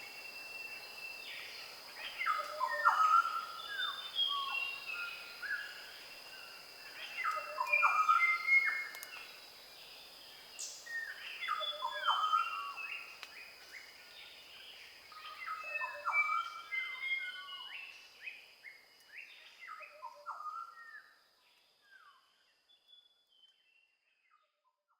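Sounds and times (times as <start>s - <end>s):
forest birds singing: 0.0s - 24.6s.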